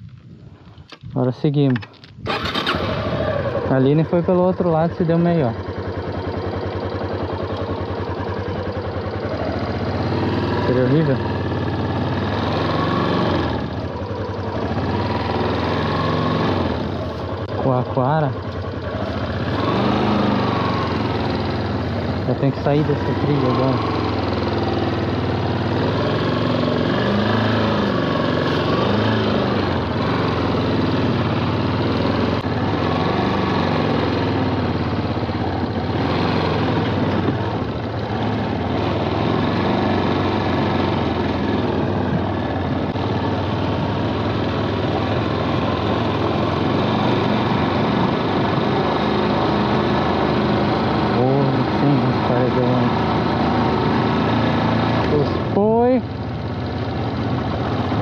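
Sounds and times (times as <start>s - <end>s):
motorcycle engine revving: 2.2s - 58.0s.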